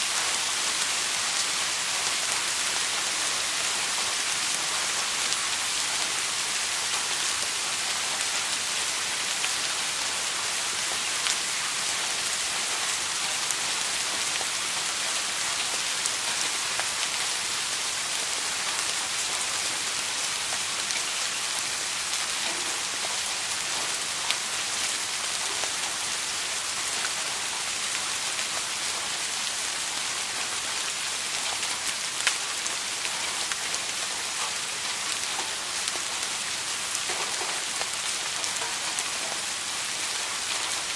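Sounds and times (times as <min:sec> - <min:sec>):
steady rain: 0:00.0 - 0:40.9
raindrops ticking on a surface: 0:00.1 - 0:40.9.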